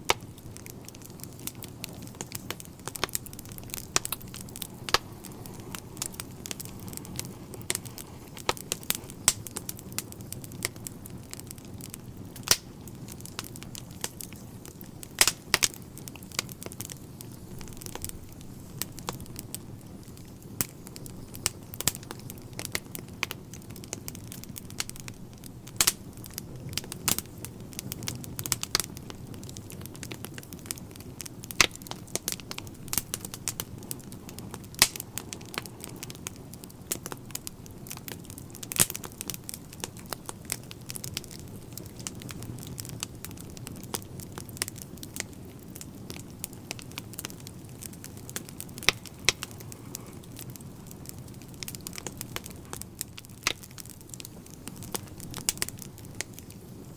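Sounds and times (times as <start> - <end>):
logs crackling and popping: 0.0 - 56.9
low rumble of flames: 0.0 - 56.9.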